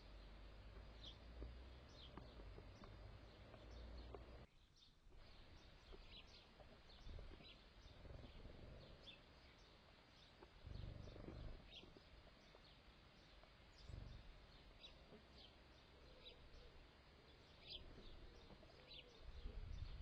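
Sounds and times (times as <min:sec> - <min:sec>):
birds chirping: 0:00.0 - 0:20.0
low background rumble: 0:00.0 - 0:20.0.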